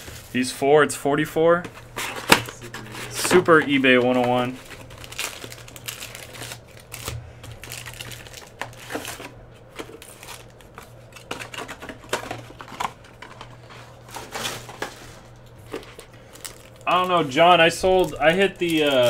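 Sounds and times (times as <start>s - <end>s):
card packs being handled: 1.6s - 19.0s.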